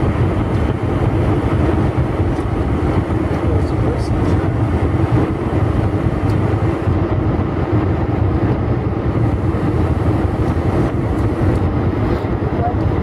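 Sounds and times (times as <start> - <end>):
faint steady hum: 0.0 - 13.0
jet engine and airflow rumble: 0.0 - 13.0.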